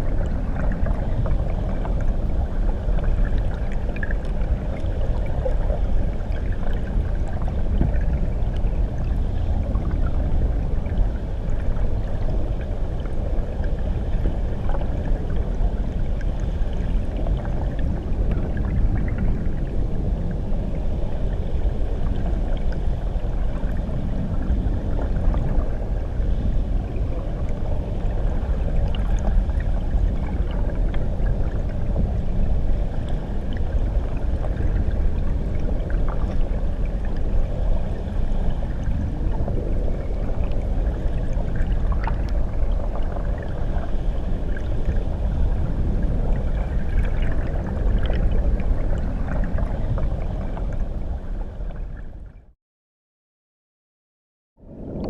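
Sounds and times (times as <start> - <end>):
muffled underwater water rush: 0.0 - 52.6, 54.6 - 55.0.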